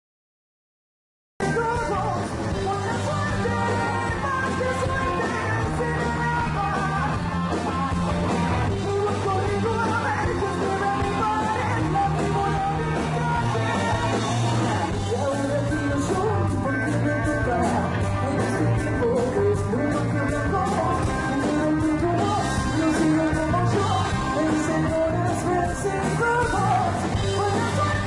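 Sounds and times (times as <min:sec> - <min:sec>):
woman singing: 0:01.4 - 0:07.2, 0:08.8 - 0:13.7, 0:15.1 - 0:28.0
rock band playing: 0:01.4 - 0:28.0.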